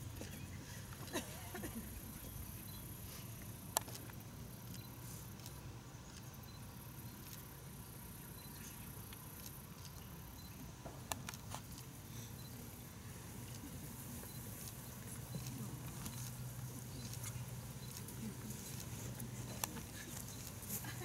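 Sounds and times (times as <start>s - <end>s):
faint background noise: 0.0s - 21.0s.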